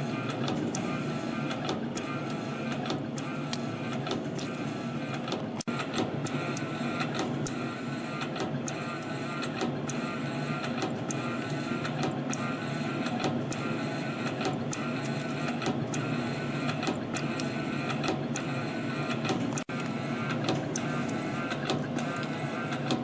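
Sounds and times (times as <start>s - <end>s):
spring coiling machine whirring: 0.0s - 23.0s.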